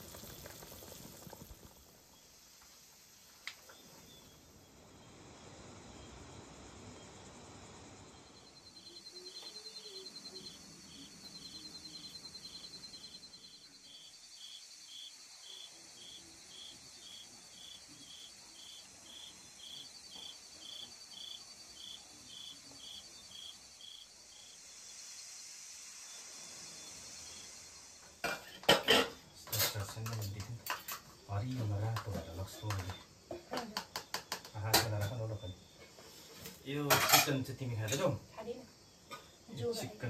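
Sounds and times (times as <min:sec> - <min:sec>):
insect steady chirp: 0:00.0 - 0:40.0.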